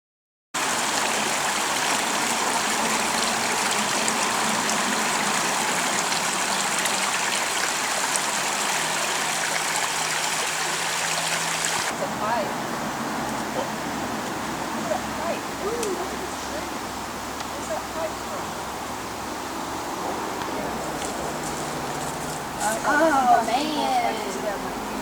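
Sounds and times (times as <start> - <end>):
water rushing over rocks: 0.6 - 21.9.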